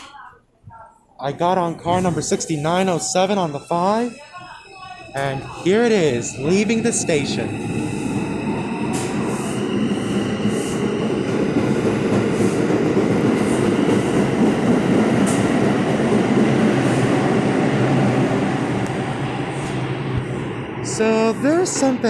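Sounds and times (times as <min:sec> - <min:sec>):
subway train rumbling on rails: 0:01.0 - 0:22.0.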